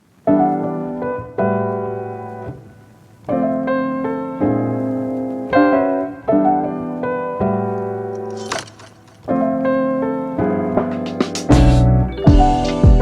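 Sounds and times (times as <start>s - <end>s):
piano playing slow chords: 0.0s - 8.3s, 9.2s - 13.0s.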